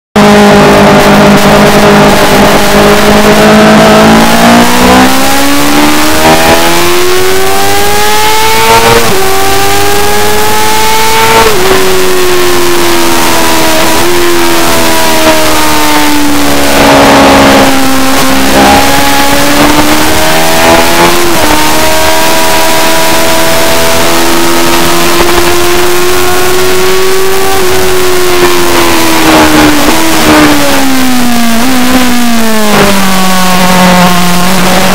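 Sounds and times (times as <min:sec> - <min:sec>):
motorbike engine accelerating: 0:00.2 - 0:34.9.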